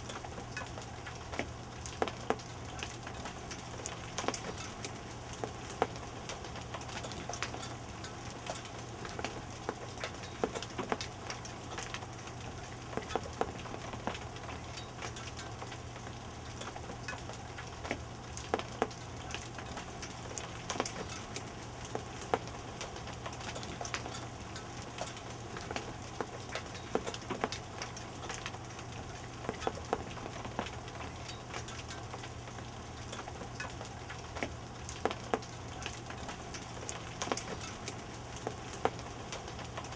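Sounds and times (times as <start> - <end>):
hailstones ticking on furniture: 0.0 - 39.9.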